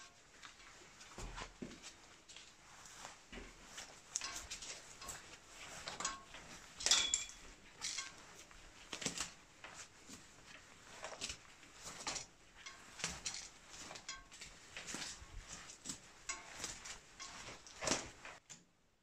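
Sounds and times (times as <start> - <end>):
handlebar tape scrapes and rustles: 0.0 - 18.4.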